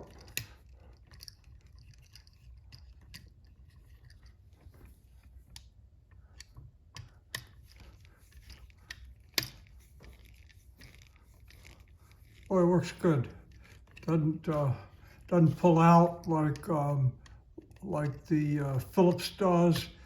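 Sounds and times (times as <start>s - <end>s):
screwdriver clicking and scraping: 0.0s - 12.5s, 13.2s - 17.8s.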